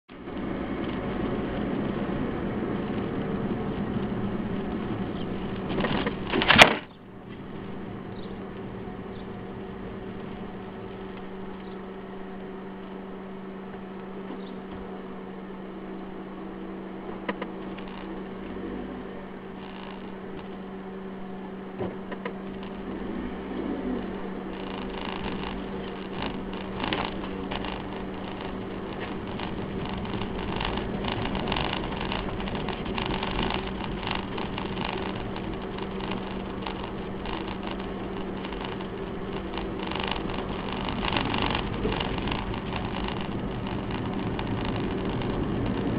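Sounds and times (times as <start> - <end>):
car cabin engine hum: 0.1 - 45.9.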